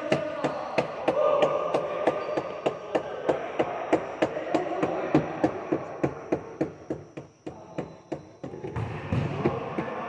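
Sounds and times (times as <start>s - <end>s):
reverberant indoor game activity: 0.0s - 10.0s.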